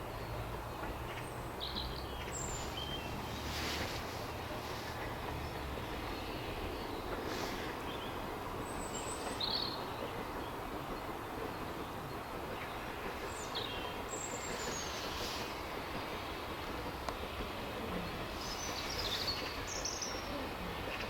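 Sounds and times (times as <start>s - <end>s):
songbird chirps: 0.2s - 21.0s.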